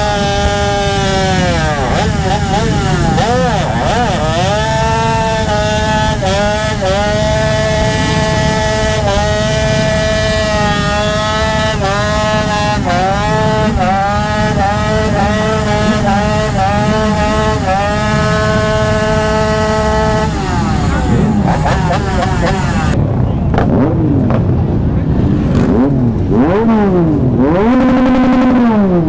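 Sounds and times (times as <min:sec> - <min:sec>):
small motorbike engine revving high: 0:00.0 - 0:24.6, 0:25.2 - 0:29.0.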